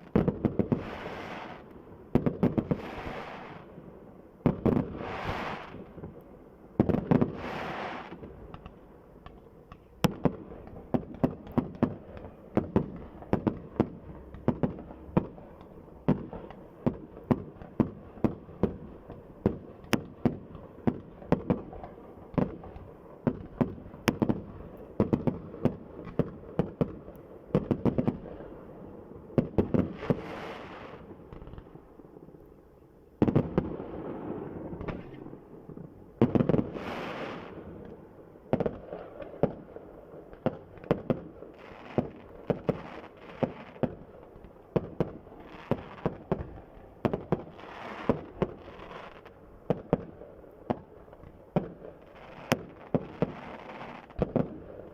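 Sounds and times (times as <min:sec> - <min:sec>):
fireworks bangs and crackles: 0:00.0 - 0:32.4, 0:33.2 - 0:54.9.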